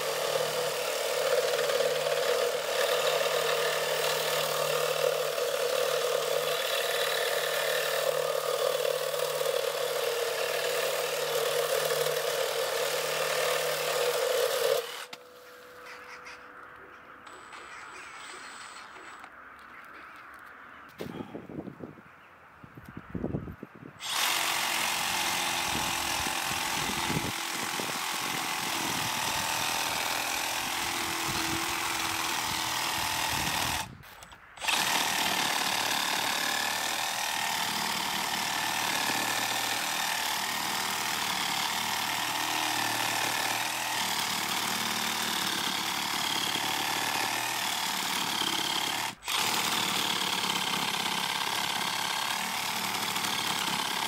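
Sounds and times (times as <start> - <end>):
reciprocating saw cutting log: 0.0 - 15.2, 24.0 - 54.0.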